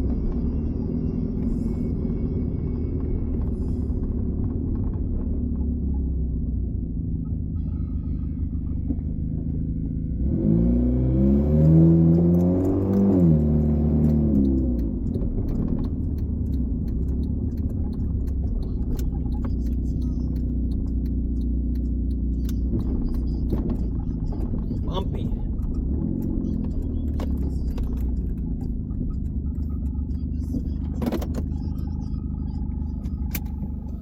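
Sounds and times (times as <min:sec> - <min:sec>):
car engine drone with exhaust rasp: 0:00.0 - 0:34.0.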